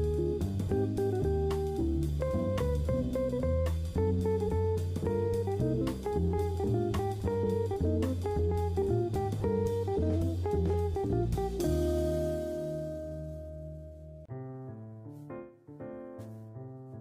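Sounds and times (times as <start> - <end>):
plucked guitar with bass and drums: 0.0 - 14.3.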